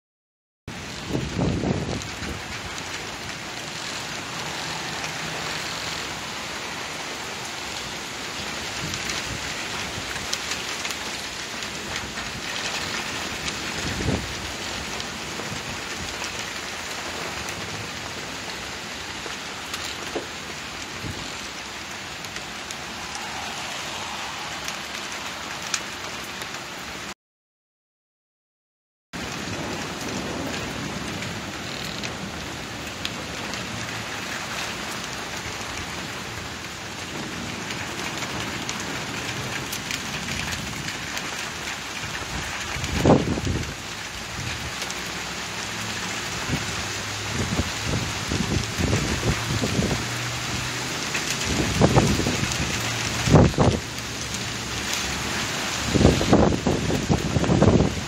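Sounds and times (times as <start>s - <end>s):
steady rain: 0.7s - 27.2s, 29.2s - 58.0s.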